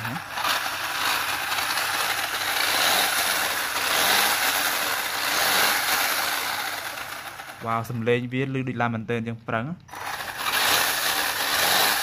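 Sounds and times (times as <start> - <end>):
toy car electric motor whirring: 0.0 - 8.0, 9.9 - 12.0.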